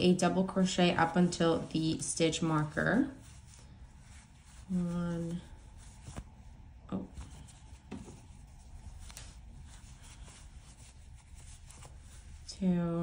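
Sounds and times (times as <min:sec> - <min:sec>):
yarn rubbing on crochet hook: 0:01.0 - 0:13.0.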